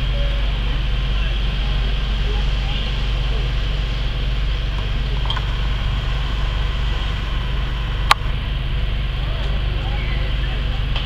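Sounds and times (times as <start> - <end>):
heavy engine rumbling: 0.0 - 11.0
hoses spraying water: 0.0 - 11.0.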